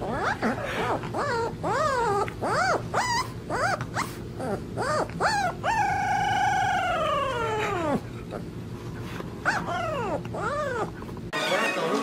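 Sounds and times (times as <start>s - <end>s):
puppy howling: 0.0s - 8.5s, 9.4s - 11.0s
puppy yelping: 0.0s - 8.5s, 9.4s - 11.2s.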